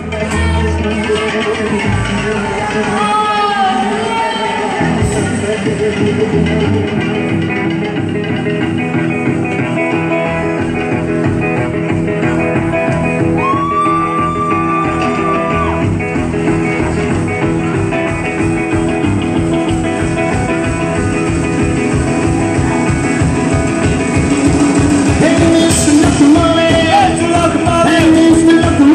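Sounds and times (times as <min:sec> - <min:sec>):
rockabilly band playing: 0:00.0 - 0:28.9.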